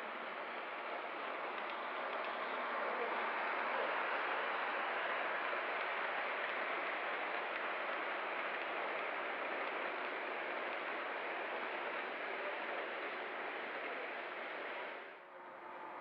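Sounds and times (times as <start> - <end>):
model trains rolling on tracks: 0.0 - 16.0.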